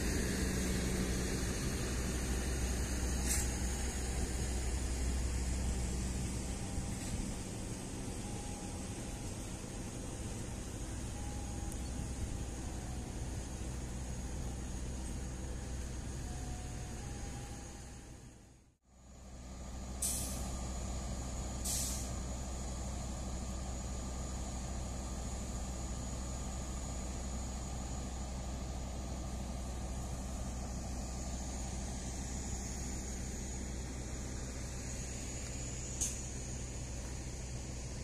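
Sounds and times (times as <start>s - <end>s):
train engine hum: 0.0s - 38.0s.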